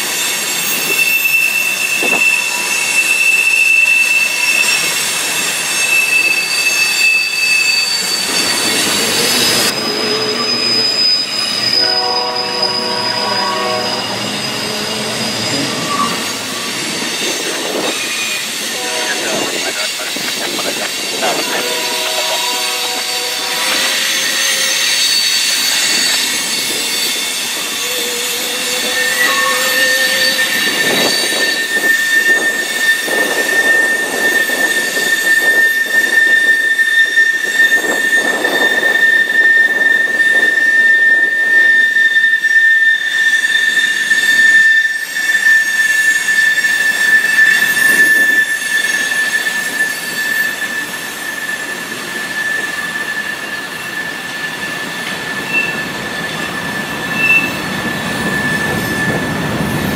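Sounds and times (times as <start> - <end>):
rumble of train cars: 0.0 - 59.9
train wheels squealing: 0.0 - 59.9.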